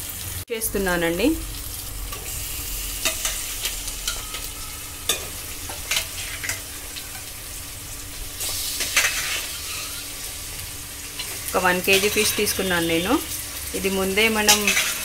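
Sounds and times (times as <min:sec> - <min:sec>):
oil sizzling in a pot: 0:00.0 - 0:15.0.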